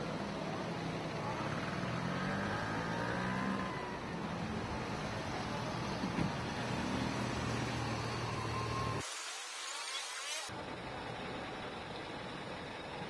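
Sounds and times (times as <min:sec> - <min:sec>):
idling engines humming: 0:00.0 - 0:09.0, 0:10.5 - 0:13.0.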